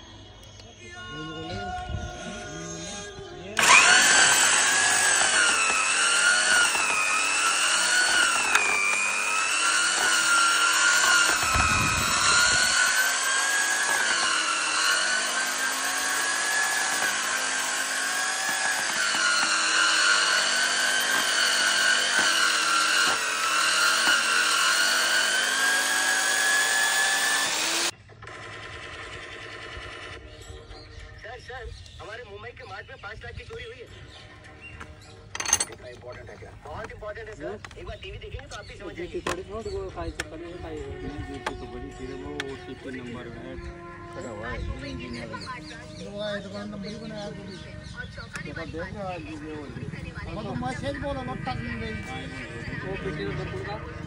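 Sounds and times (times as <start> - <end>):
pipe facing tool cutter whine: 0.0 - 31.2, 34.1 - 54.0.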